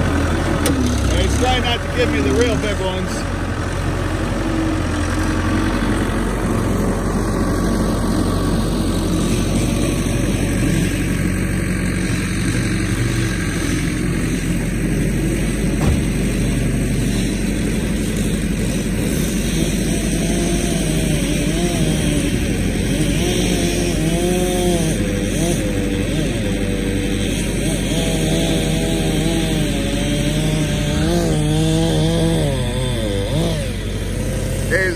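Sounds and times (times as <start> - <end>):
skid steer engine running: 0.0 - 34.9.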